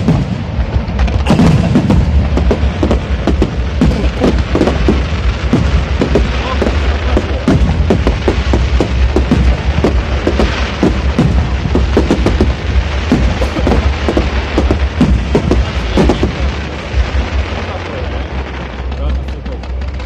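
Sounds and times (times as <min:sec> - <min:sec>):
fireworks bangs and crackles: 0:00.0 - 0:20.0
low rumble: 0:00.0 - 0:20.0.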